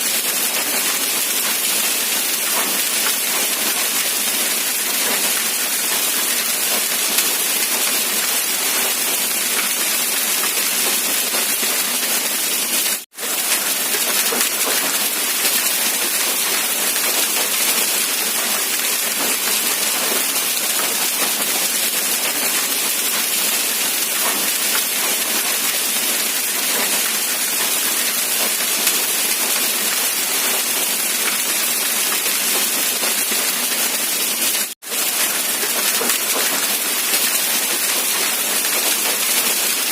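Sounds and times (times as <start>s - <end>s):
dense rain hiss: 0.1s - 39.9s.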